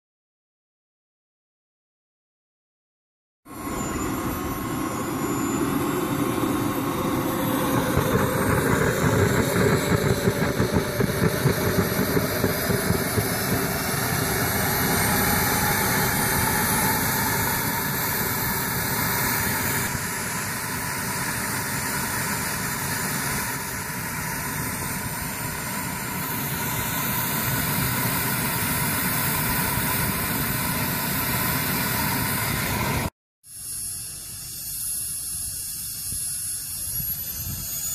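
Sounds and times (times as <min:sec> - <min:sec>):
jet turbine spooling up: 0:03.5 - 0:37.9.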